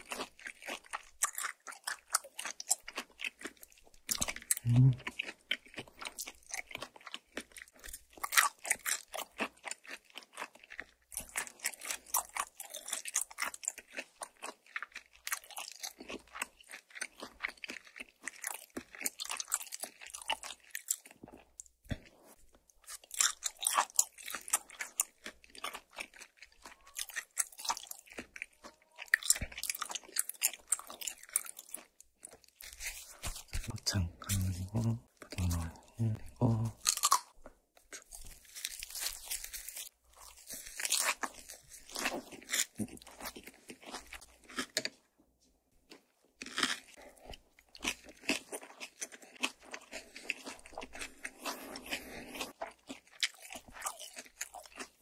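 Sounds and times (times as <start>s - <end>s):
crunchy wet chewing: 0.0s - 45.1s, 45.8s - 55.0s.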